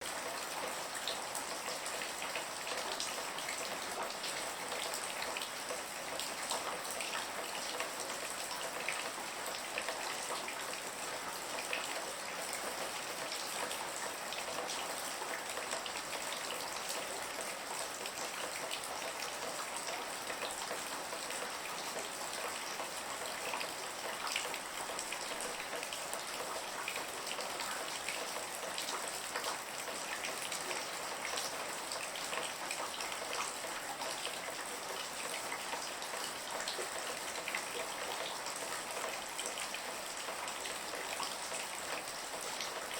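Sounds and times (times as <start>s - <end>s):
raindrops pattering on a surface: 0.0s - 42.9s.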